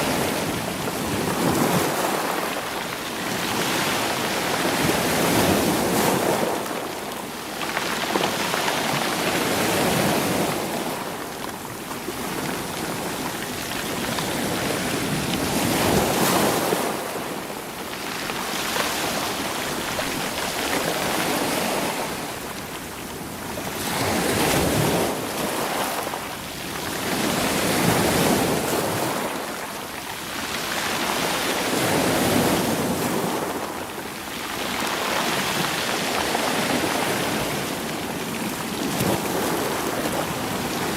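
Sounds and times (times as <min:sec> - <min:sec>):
waves washing onto stony shore: 0:00.0 - 0:40.9.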